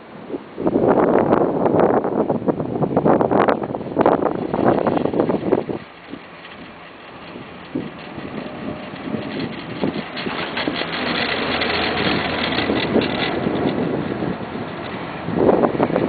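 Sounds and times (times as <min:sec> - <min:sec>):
wind on microphone: 0:00.0 - 0:16.0
chairlift rumble and clattering: 0:02.4 - 0:16.0.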